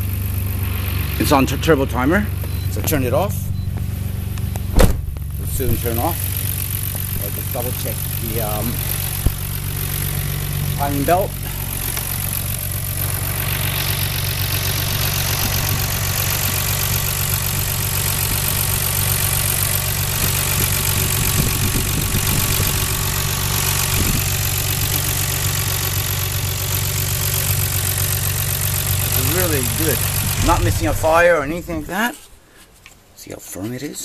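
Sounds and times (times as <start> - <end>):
car engine idling: 0.0 - 32.7.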